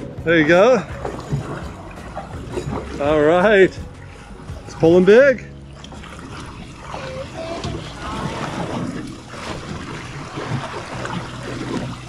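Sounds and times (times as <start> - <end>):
water splashing at boat stern: 0.0 - 12.0.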